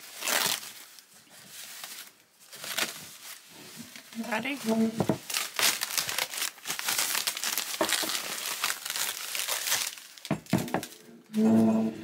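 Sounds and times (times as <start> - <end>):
tissue paper crinkling: 0.0 - 11.0.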